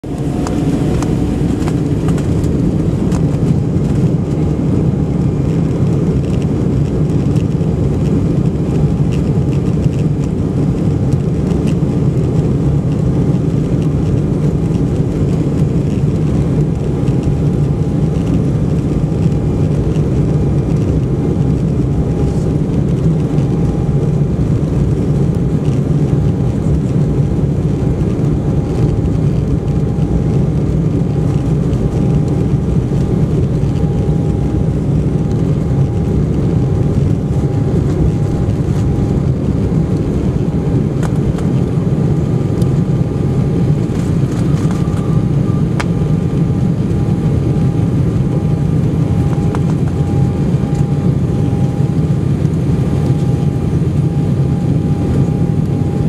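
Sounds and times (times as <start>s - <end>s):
jet engine hum in cabin: 0.0s - 56.0s.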